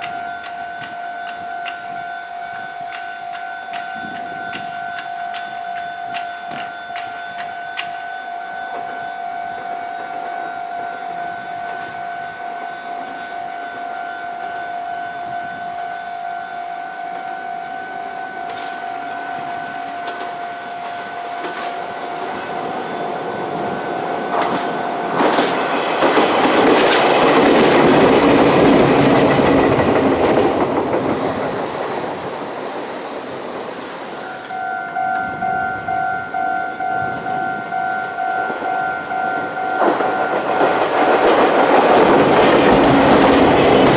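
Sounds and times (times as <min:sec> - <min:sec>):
train wheels clacking on rails: 0:00.0 - 0:13.4, 0:18.0 - 0:43.9
level crossing bell ringing: 0:00.0 - 0:25.8, 0:34.1 - 0:43.9.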